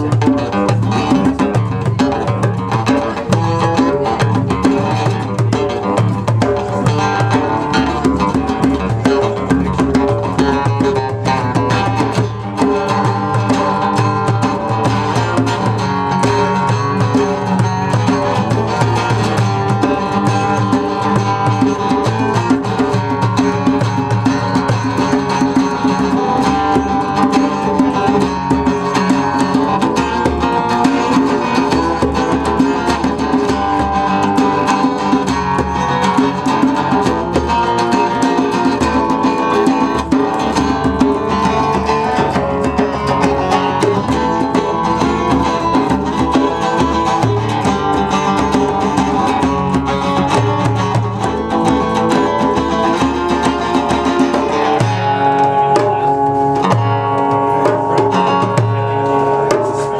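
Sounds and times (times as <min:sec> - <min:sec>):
band playing instrumental: 0:00.0 - 0:59.9
strummed guitar: 0:00.0 - 0:59.9.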